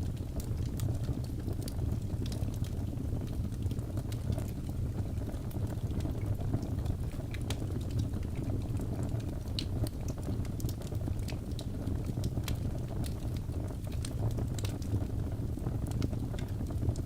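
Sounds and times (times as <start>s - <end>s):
burning logs crackling and popping: 0.0s - 17.0s
fire flames rumbling: 0.0s - 17.0s.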